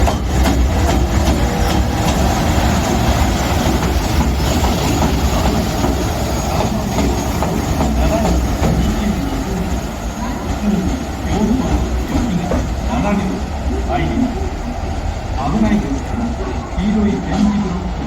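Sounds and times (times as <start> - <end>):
train rolling rumble: 0.0 - 18.0.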